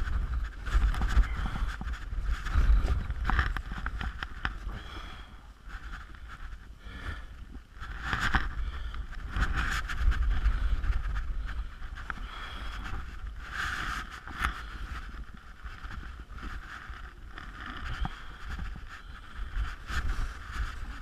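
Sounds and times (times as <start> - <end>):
tent fabric and clothing flapping: 0.0 - 21.0
wind buffeting microphone: 0.0 - 21.0.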